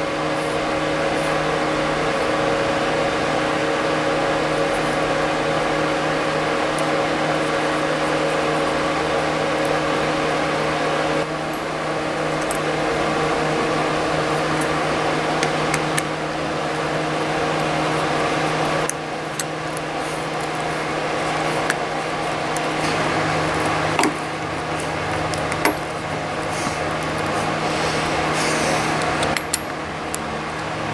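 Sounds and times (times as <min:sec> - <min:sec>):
steady mechanical hum: 0:00.0 - 0:30.9.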